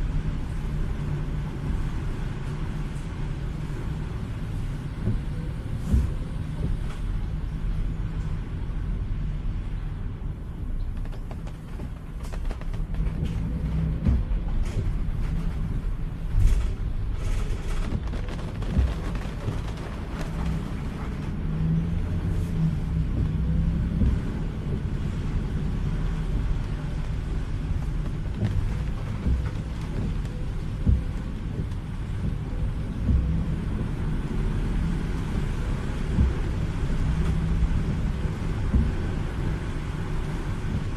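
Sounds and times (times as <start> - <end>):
engine and tyres rumbling: 0.0 - 40.9
rain on car: 0.0 - 40.9.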